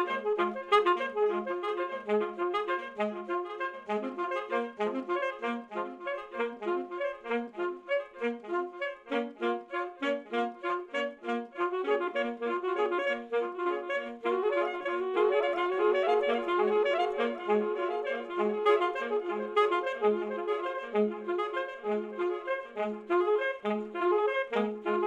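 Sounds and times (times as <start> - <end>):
alto saxophone short notes: 0.0 - 25.0.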